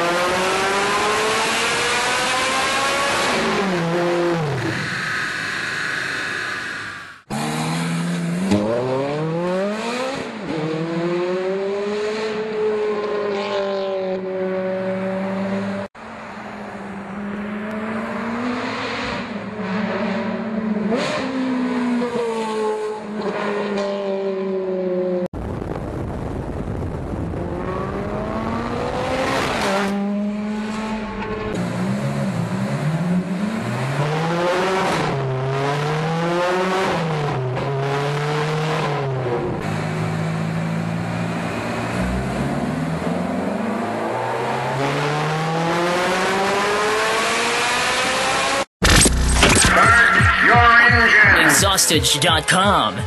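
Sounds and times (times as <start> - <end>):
car engine revving and accelerating: 0.0 - 25.3, 27.3 - 49.4.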